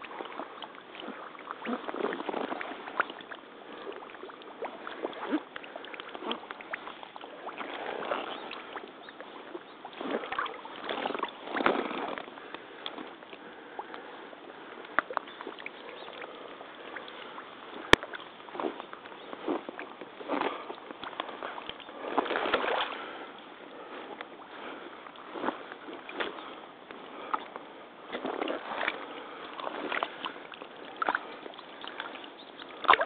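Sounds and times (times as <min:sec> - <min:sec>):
waders sloshing through water: 0:00.0 - 0:33.0.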